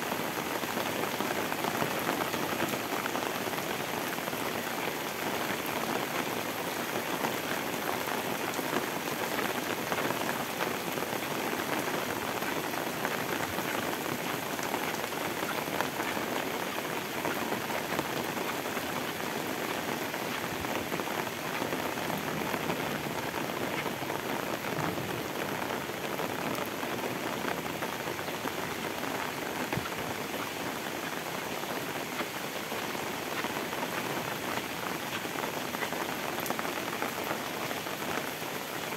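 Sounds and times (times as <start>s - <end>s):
heavy rain on pavement and leaves: 0.0s - 38.9s.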